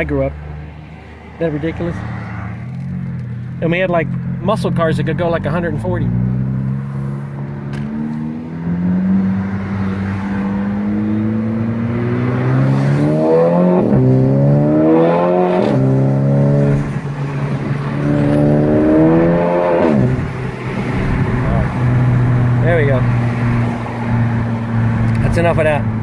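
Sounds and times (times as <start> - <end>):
car engine accelerating through gears: 5.1 - 26.0.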